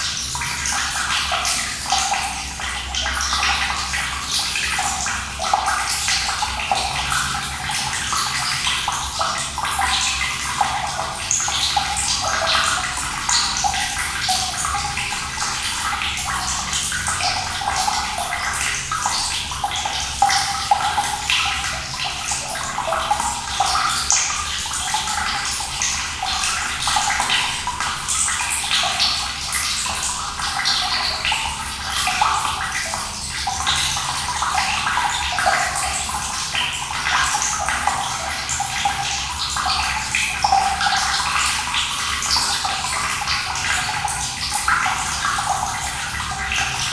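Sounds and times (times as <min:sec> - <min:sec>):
running water pouring and splashing: 0:00.0 - 0:46.9.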